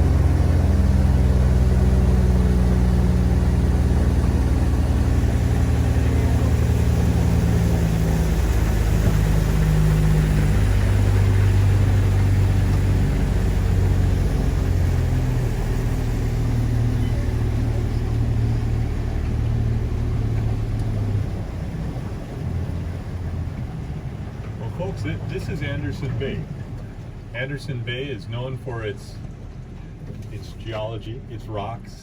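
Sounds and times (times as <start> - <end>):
water rushing: 0.0 - 29.4
motorboat engine running: 0.0 - 32.0.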